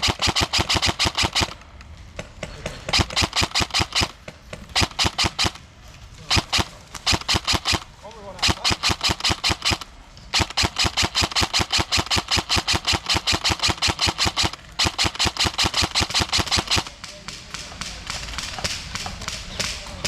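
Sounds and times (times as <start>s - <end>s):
airsoft rifle firing bursts: 0.0s - 20.0s
scattered noise: 0.0s - 20.0s.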